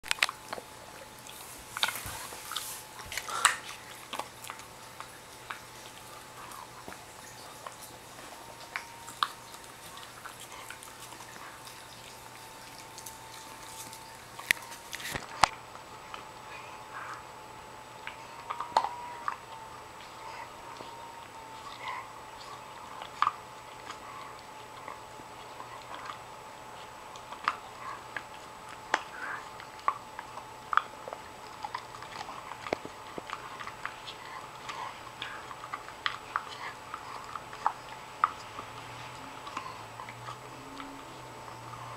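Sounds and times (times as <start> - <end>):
dog gnawing hard chew: 0.0 - 41.9.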